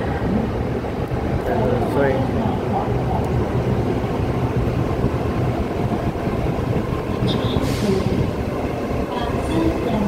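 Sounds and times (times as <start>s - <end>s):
electric train humming at platform: 0.0s - 10.0s.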